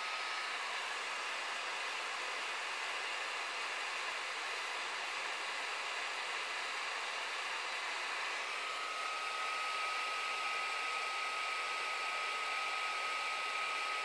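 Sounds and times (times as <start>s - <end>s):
laptop cooling fans rushing: 0.0s - 14.0s.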